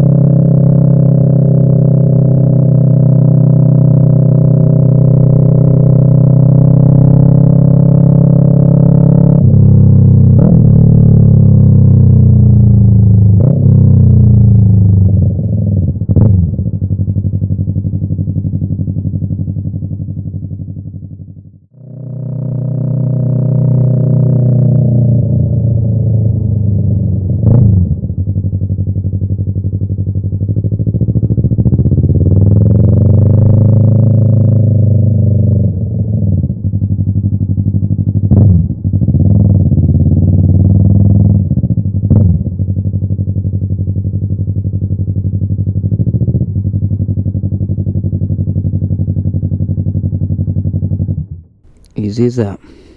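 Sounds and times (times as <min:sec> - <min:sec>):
motorcycle engine revving onboard: 0:00.0 - 0:51.5.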